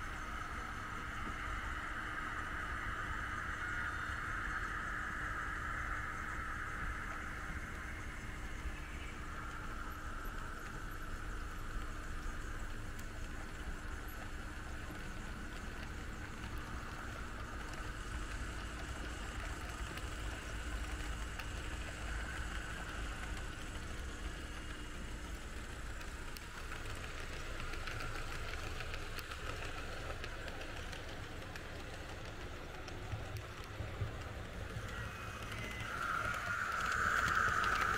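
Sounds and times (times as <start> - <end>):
faint motor hum: 0.0 - 37.9
model train wheels on rails: 0.0 - 37.9.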